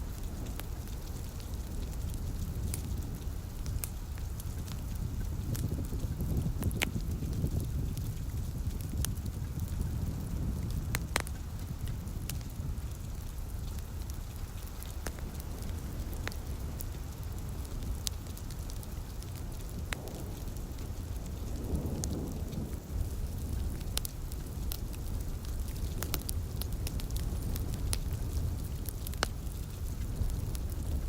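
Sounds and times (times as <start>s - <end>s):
steady rain: 0.0s - 31.0s
wood fire crackling and popping: 0.0s - 31.0s.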